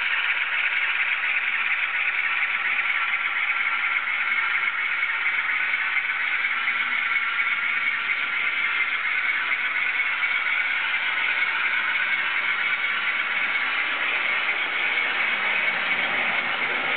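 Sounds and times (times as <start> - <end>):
model trains running on tracks: 0.0 - 16.9.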